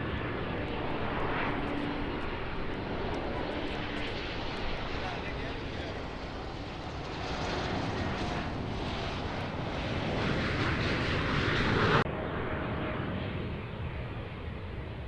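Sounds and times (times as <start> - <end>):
airliner engines roaring: 0.0 - 15.0.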